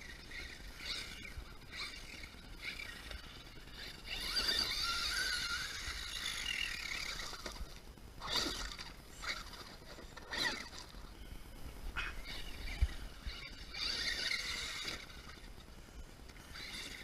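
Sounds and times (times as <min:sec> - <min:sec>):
electric toy car motor whining: 0:00.0 - 0:11.1, 0:12.2 - 0:15.6, 0:16.3 - 0:17.0.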